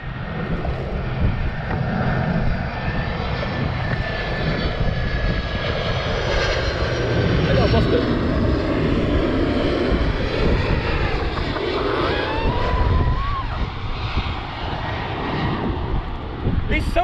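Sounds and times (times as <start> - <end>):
jet aircraft flying overhead: 0.0 - 17.0.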